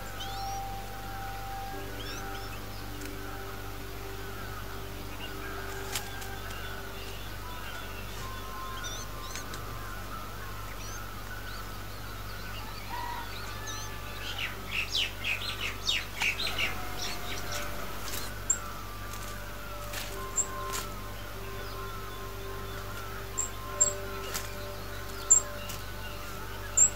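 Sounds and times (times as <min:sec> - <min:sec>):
birds chirping: 0:00.0 - 0:26.9
steady background hum: 0:00.0 - 0:26.9
rapid harsh bird calls: 0:04.2 - 0:26.9.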